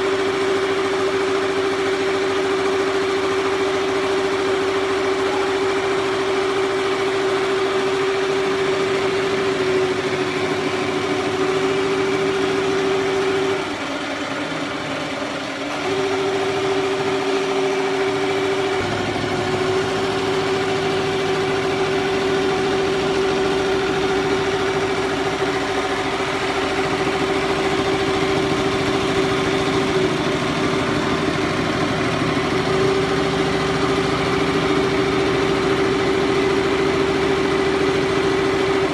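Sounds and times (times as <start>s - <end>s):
embroidery machine stitching: 0.0s - 38.9s.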